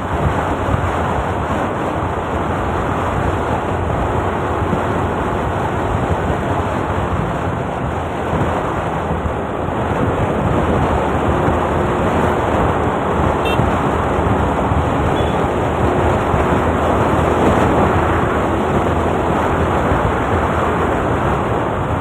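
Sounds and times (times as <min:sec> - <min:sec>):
road noise: 0:00.0 - 0:22.0
wind roaring over microphone: 0:00.0 - 0:22.0.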